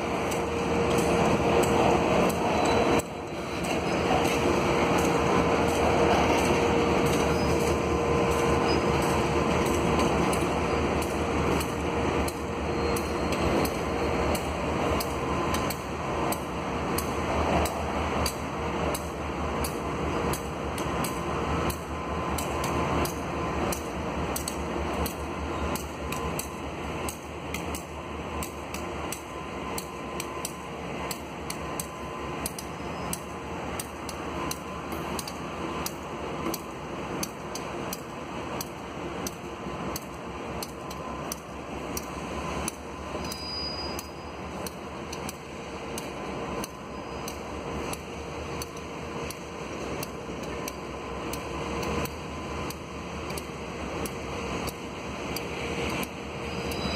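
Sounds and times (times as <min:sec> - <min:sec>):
diesel locomotive running: 0:00.0 - 0:56.9
train wheels clicking over track: 0:00.0 - 0:56.9.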